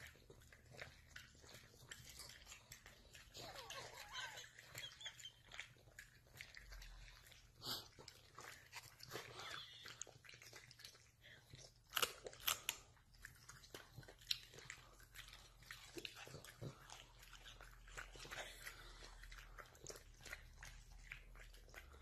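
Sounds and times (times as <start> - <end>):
dogs crunching treats: 0.0 - 22.0.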